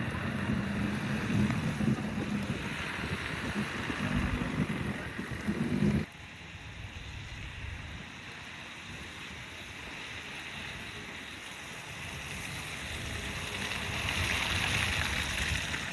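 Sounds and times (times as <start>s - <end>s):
steady rushing outdoor noise: 0.0s - 15.9s.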